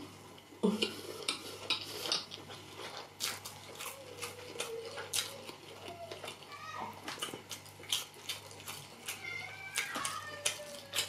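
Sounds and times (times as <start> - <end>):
person chewing porridge: 0.0 - 11.0.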